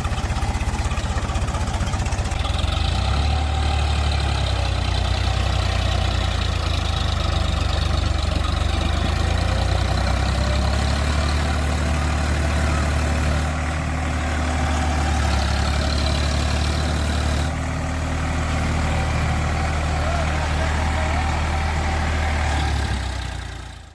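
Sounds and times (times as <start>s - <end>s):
tractor engine droning: 0.0s - 23.9s.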